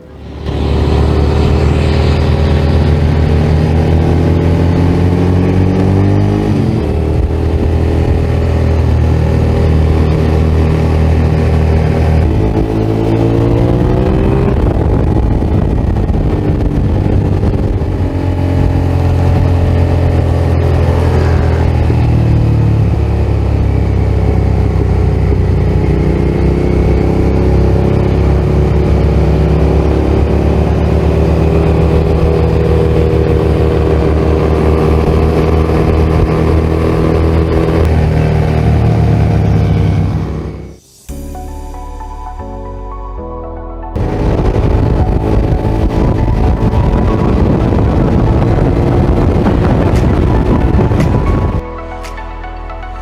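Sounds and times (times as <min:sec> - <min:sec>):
motorcycle engine accelerating: 0:00.0 - 0:41.0, 0:44.0 - 0:51.6.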